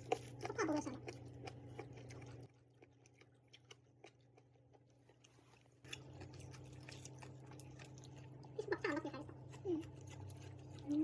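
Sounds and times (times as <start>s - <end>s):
faint chewing: 0.0s - 11.0s
low steady hum: 0.0s - 11.0s.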